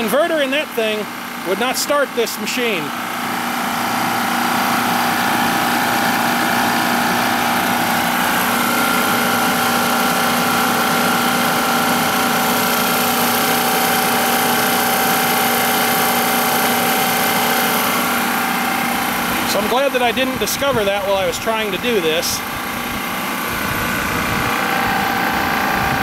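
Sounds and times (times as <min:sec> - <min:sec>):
refrigerant recovery machine humming: 0:00.0 - 0:26.0.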